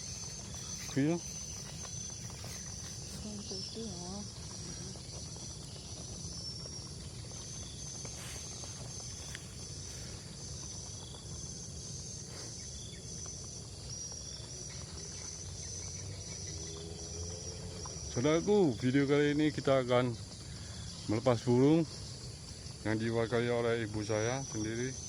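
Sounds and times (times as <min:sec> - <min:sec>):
insects trilling: 0:00.0 - 0:25.0
low outdoor background rumble: 0:00.0 - 0:25.0.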